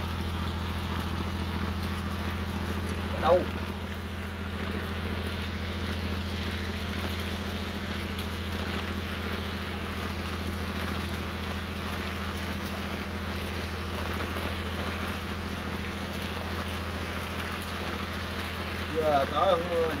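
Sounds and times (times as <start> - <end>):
boat engine droning: 0.0 - 20.0
rain hiss: 0.0 - 20.0.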